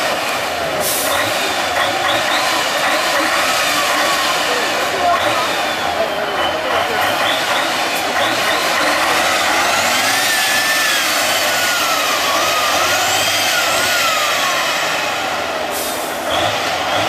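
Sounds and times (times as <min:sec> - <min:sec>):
truck engine running hard: 0:00.0 - 0:17.0.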